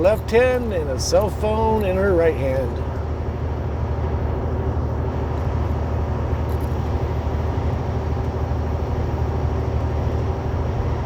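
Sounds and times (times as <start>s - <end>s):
diesel truck engine rumble: 0.0s - 11.0s
road noise: 0.0s - 11.0s.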